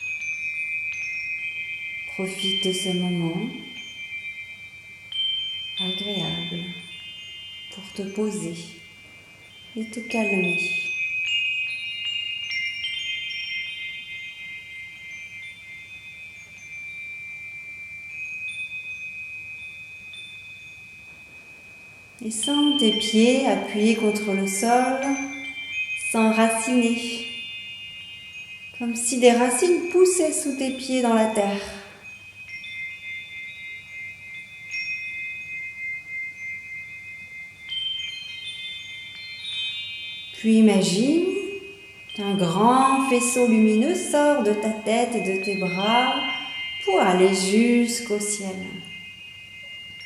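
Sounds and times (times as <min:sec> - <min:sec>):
wind chimes ringing: 0:00.0 - 0:50.0.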